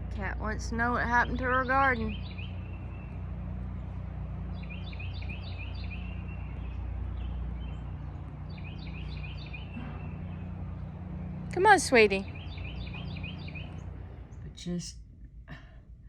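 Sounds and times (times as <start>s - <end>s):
songbird chirping: 0.0s - 14.8s
steady low hum: 0.0s - 16.0s.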